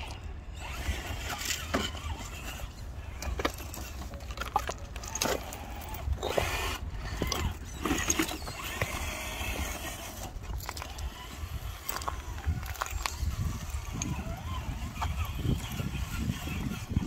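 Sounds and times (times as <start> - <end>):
electric motor whining: 0.0 - 17.0
tyres clicking and scraping on rock: 0.0 - 17.0.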